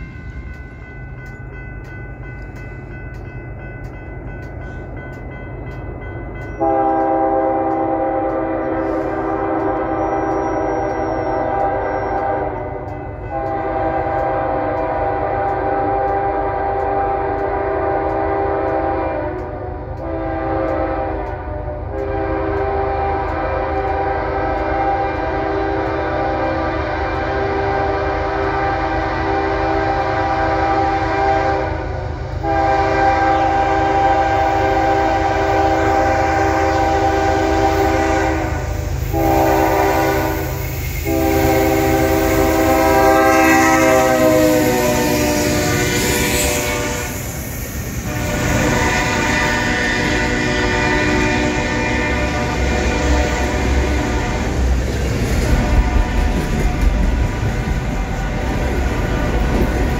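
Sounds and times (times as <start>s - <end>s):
train rumbling: 0.0s - 59.9s
locomotive air horn blasts: 6.6s - 47.4s, 48.0s - 59.6s.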